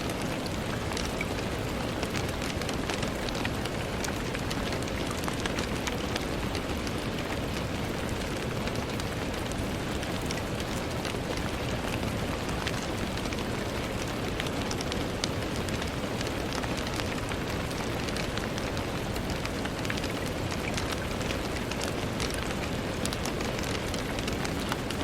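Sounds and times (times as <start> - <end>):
rain hissing: 0.0 - 25.0
raindrops ticking on glass: 0.0 - 25.0.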